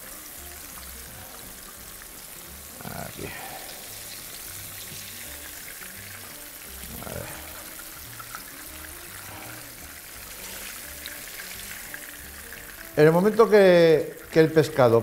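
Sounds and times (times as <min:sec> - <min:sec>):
fish sizzling in hot oil: 0:00.0 - 0:15.0
oil popping: 0:00.0 - 0:15.0
quiet background music: 0:00.0 - 0:15.0.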